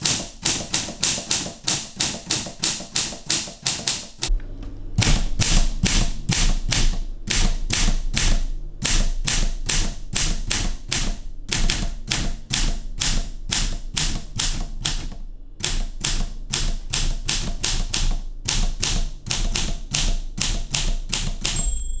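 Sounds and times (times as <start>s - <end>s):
manual typewriter key strikes: 0.0s - 4.3s, 5.0s - 22.0s.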